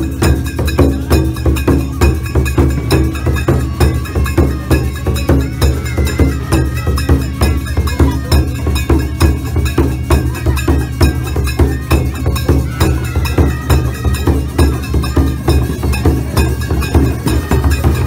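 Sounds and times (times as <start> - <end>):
barrel drums beaten with sticks: 0.0 - 18.0
wind instrument melody: 0.0 - 18.0.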